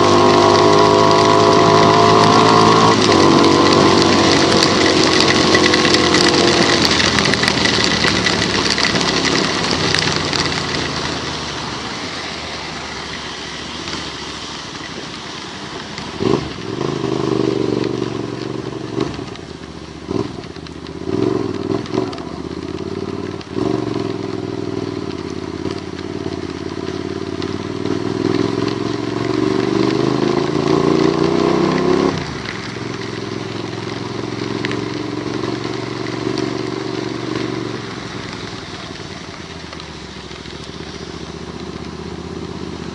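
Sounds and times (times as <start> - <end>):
rain and tyre spray hiss: 0.0 - 42.9
vehicle engine accelerating: 0.0 - 42.9.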